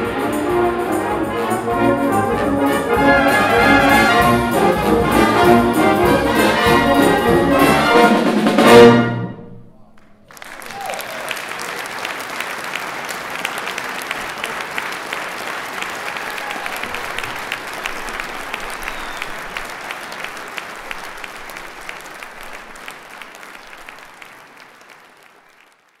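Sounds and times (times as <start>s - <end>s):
audience applauding: 0.0s - 8.1s, 9.8s - 26.0s.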